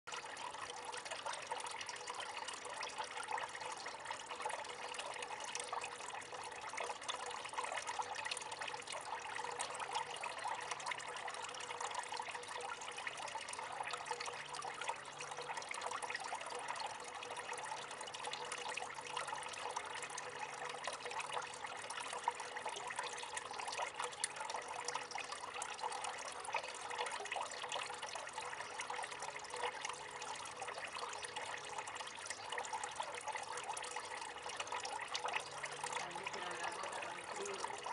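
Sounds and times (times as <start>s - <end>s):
fountain water trickling: 0.1s - 37.9s.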